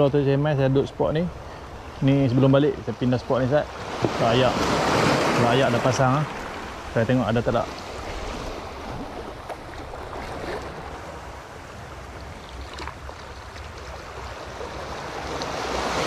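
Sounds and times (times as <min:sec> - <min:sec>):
waves lapping over rocks: 0:02.0 - 0:16.0.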